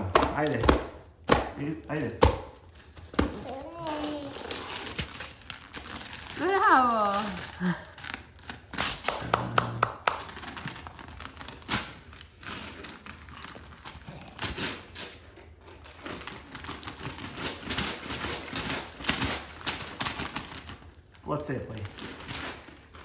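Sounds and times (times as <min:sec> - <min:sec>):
paper wrapping rustling: 0:02.6 - 0:23.0.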